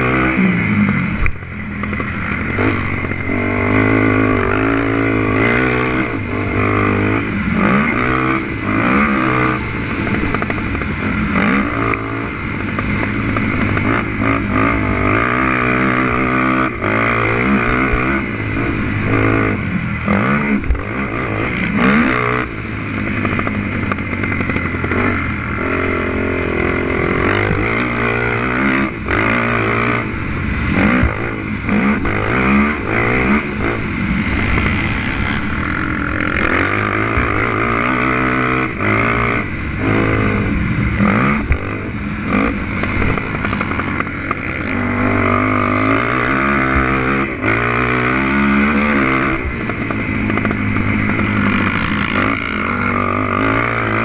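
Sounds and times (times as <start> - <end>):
quad bike engine revving: 0.0 - 54.0.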